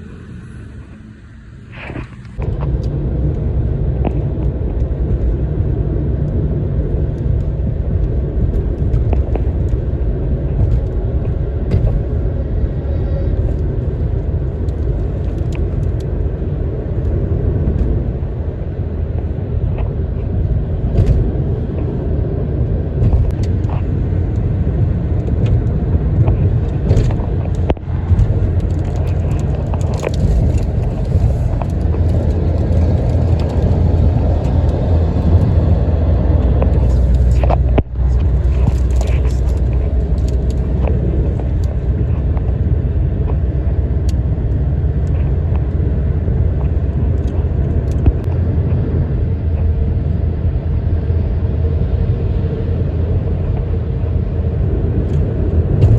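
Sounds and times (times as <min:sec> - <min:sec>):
highway traffic rumble: 0:00.0 - 0:55.9.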